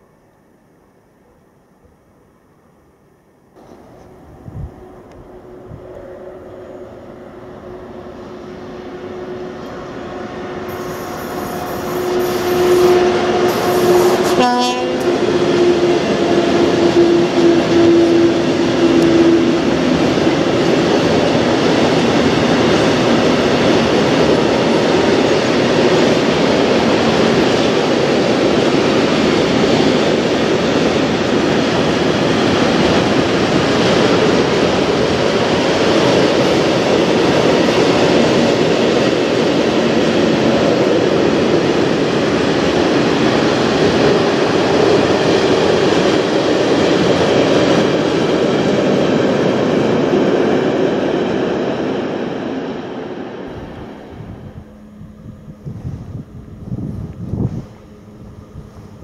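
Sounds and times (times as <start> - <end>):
electric locomotive tone: 3.6 - 59.0
train wheels on rails: 3.6 - 59.0.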